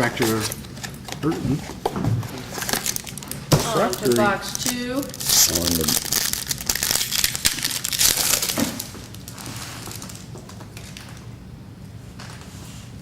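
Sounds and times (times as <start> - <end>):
packaging crinkling and tearing: 0.0 - 1.6, 2.4 - 11.2
rustling and handling: 0.0 - 11.3.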